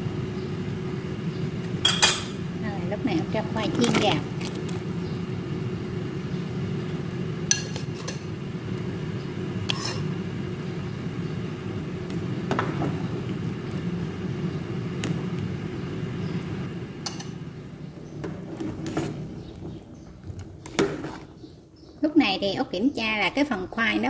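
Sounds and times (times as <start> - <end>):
low rumble of boiling: 0.0 - 24.0.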